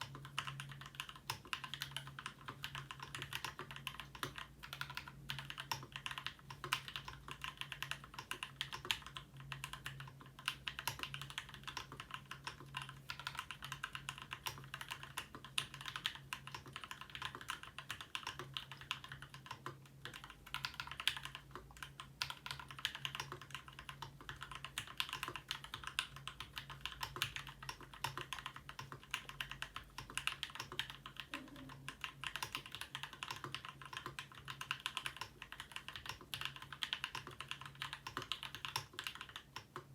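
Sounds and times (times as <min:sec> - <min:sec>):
faint steady hum: 0:00.0 - 0:39.9
keyboard typing clacks: 0:00.0 - 0:39.9.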